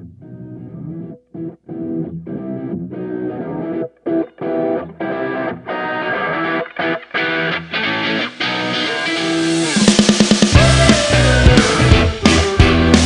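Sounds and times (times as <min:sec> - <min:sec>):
guitar chord stabs: 0:00.2 - 0:13.0.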